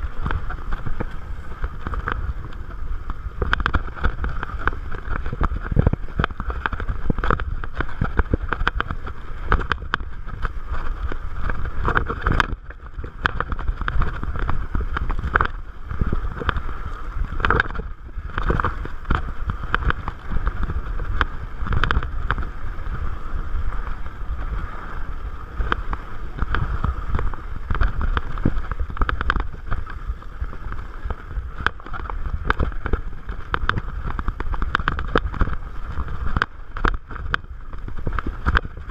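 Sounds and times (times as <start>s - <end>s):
bike knocking on rocks: 0.0s - 24.5s, 25.6s - 38.9s
bike rumbling and rattling: 0.0s - 38.9s
wind buffeting microphone: 0.0s - 38.9s.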